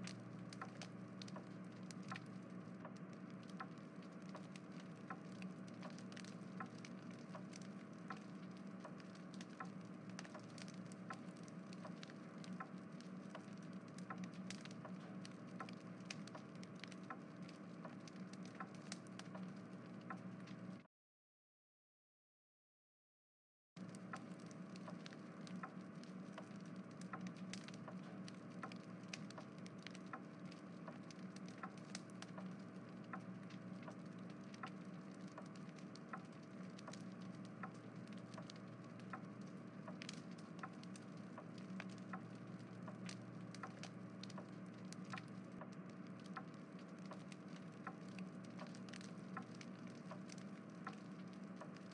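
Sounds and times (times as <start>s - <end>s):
faint low hum: 0.0s - 20.9s, 23.8s - 51.9s
small irregular clicks: 0.0s - 20.9s, 23.8s - 51.9s.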